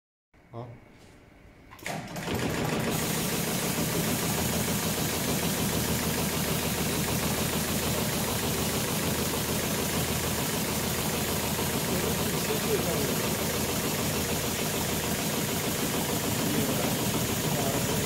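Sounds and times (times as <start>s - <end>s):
sewing machine running: 1.8s - 18.0s.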